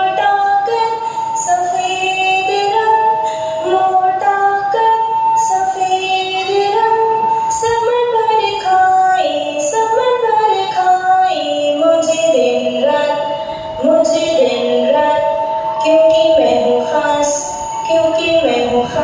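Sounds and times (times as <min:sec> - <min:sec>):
musical accompaniment: 0:00.0 - 0:19.0
woman singing: 0:00.0 - 0:19.0.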